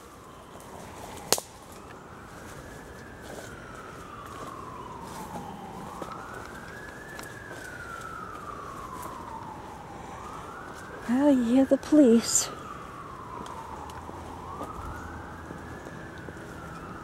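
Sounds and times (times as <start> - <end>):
police siren wailing: 0.0 - 17.0.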